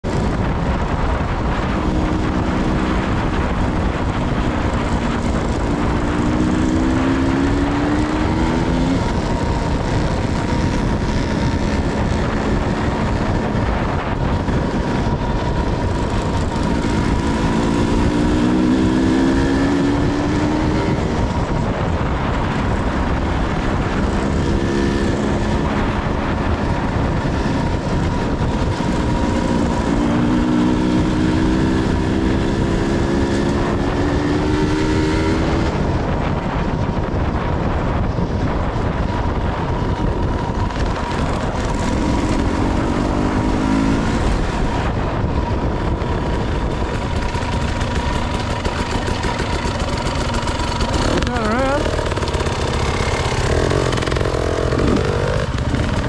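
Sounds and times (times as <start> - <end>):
wind noise on microphone: 0.0 - 56.0
dirt bike engine revving: 0.8 - 35.8, 41.0 - 56.0.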